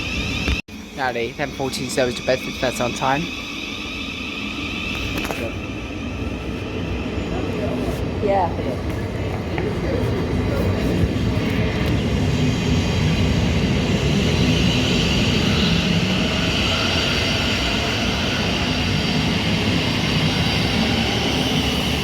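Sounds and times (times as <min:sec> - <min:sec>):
train hissing whine: 0:00.0 - 0:09.2, 0:09.8 - 0:22.0.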